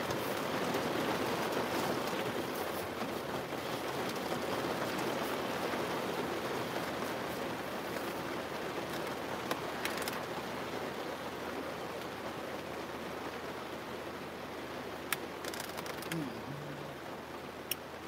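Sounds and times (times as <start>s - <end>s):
rain on a window pane: 0.0s - 18.0s.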